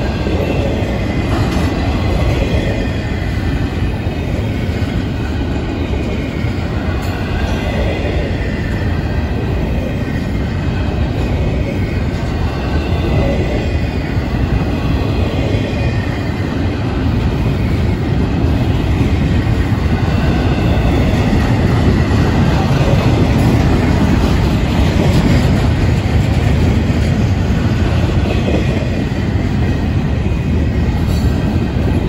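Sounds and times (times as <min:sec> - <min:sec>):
steel wheels rumbling on rail: 0:00.0 - 0:32.0.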